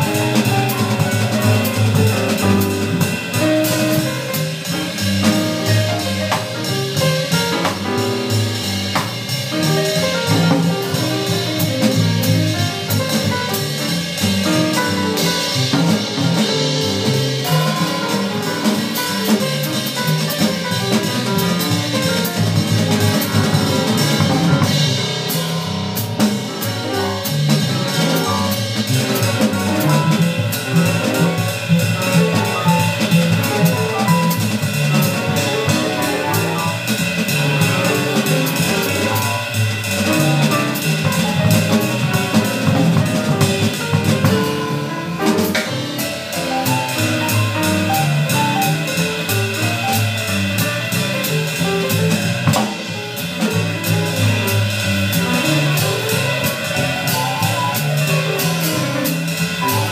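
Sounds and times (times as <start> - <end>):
double bass: 0.0 - 59.9
drum kit with cymbals: 0.0 - 59.9
piano: 0.0 - 59.9.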